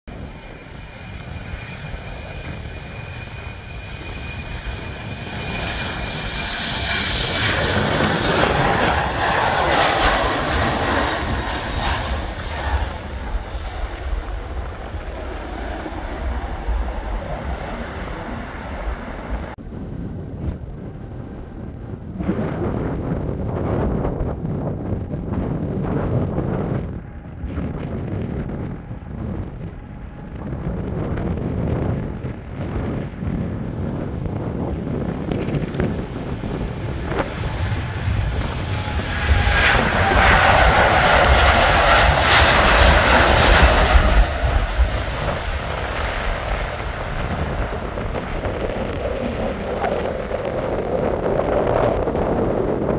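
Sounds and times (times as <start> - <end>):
distant low rumble: 0.1 - 52.9
jet engine rumble: 0.1 - 52.9
wind buffeting microphone: 0.1 - 52.9.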